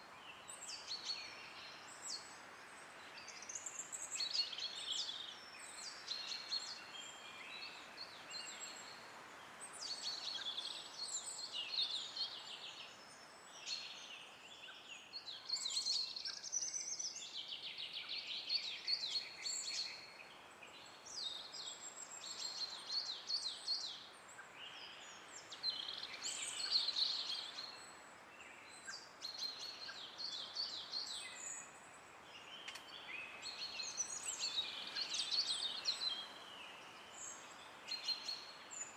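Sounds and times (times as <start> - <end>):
faint wind hiss: 0.0 - 38.9
songbirds chirping: 0.0 - 38.9.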